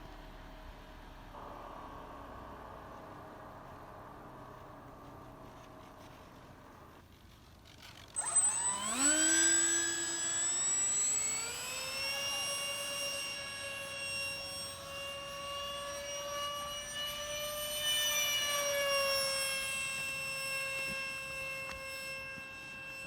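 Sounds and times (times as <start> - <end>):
electric fan whine rising: 0.0 - 23.0
faint steady hum: 0.0 - 23.0.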